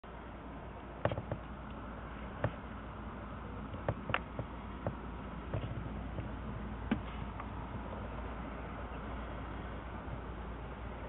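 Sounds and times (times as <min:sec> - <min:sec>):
distant rumble and hiss: 0:00.0 - 0:11.0.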